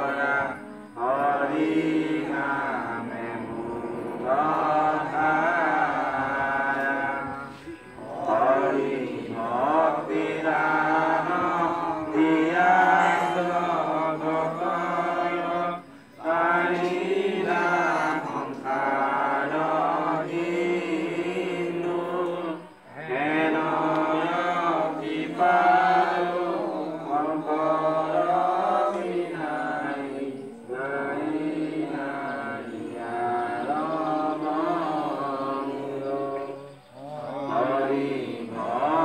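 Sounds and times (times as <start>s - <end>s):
group of voices chanting: 0.0s - 39.0s.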